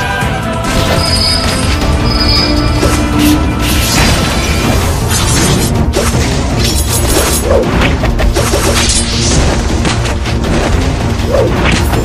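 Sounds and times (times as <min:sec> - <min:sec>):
dramatic soundtrack music: 0:00.0 - 0:12.0.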